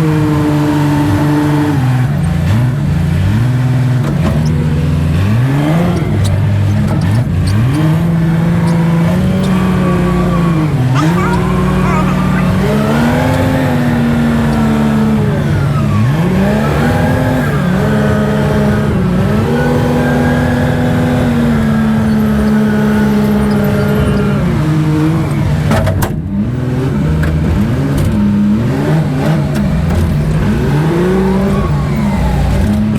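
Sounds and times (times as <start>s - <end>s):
vehicle engine revving: 0.0s - 32.9s.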